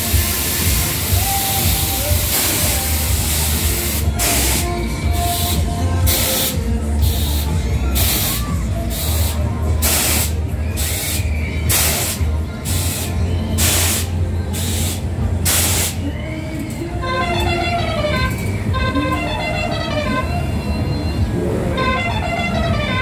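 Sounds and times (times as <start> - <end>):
fairground music: 0.0 - 23.0.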